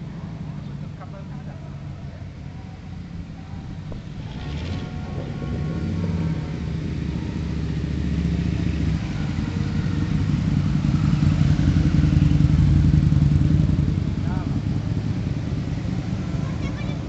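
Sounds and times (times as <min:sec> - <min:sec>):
motorcycle and car engines rumbling: 0:00.0 - 0:17.0.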